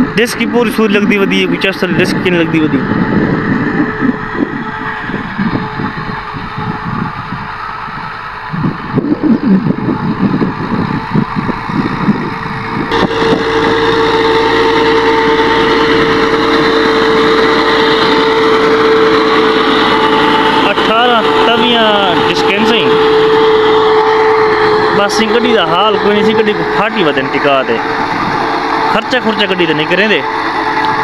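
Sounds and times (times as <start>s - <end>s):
high mechanical whine: 0.0s - 31.0s
tractor engine under load: 0.0s - 31.0s.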